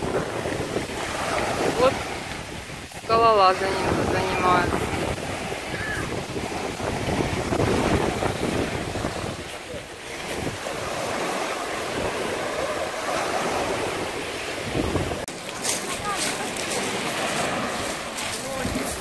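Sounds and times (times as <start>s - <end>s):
surf against rocks: 0.0s - 19.0s
wind buffeting microphone: 0.0s - 19.0s.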